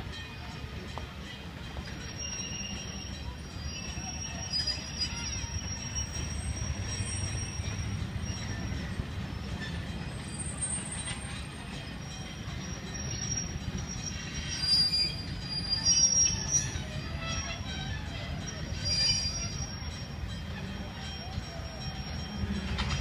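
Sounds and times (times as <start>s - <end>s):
train rumbling past: 0.0s - 23.0s
train wheels squealing on rails: 0.0s - 23.0s.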